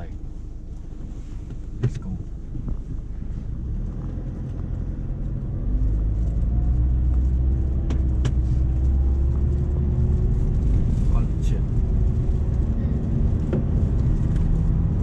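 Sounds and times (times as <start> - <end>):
car engine pulling uphill: 0.0 - 15.0.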